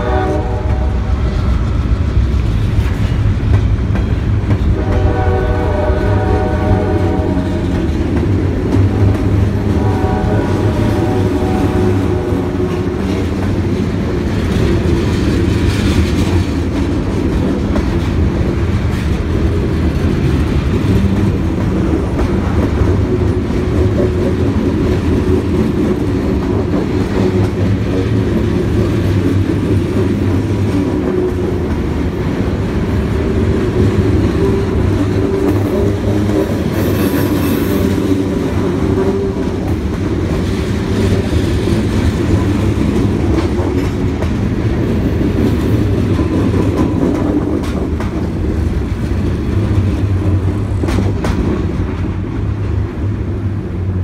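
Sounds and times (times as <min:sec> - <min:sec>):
steel wheels on rails: 0:00.0 - 0:54.0.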